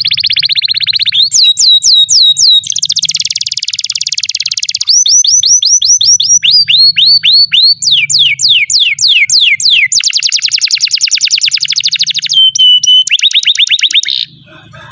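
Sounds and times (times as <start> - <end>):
canary singing: 0.0 - 14.9.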